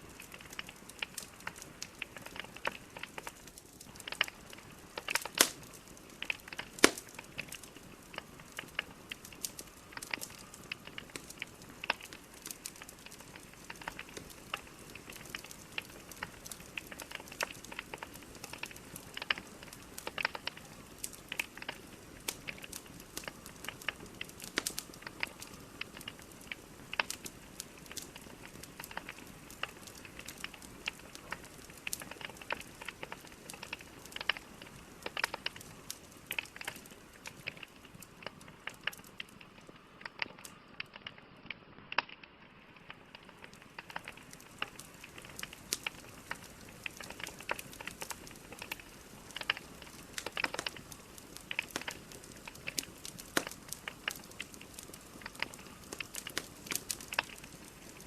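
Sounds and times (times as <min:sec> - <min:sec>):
fire crackling and popping: 0:00.0 - 0:58.0
soft steady fire hiss: 0:00.0 - 0:58.0.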